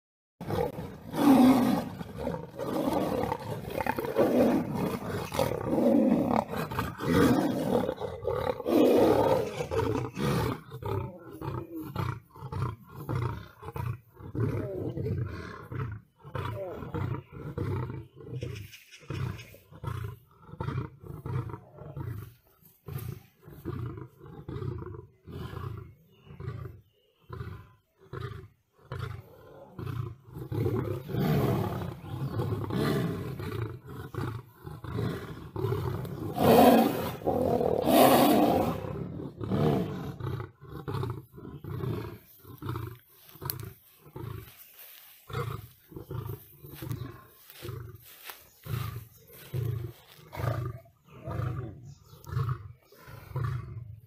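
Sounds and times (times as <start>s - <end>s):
big cats roaring: 0.4s - 44.5s, 45.3s - 54.0s.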